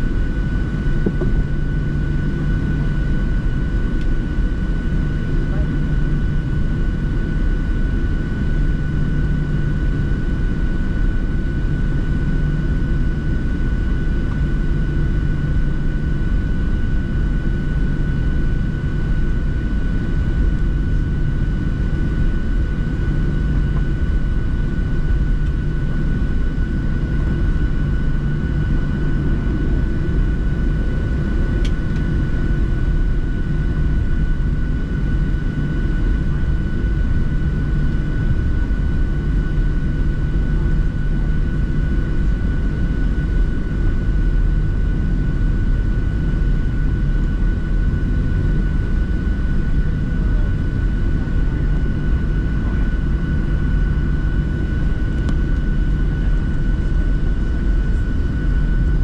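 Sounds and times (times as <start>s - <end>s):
airliner cabin jet engine noise: 0.0s - 59.0s
thin steady whine: 0.0s - 59.0s.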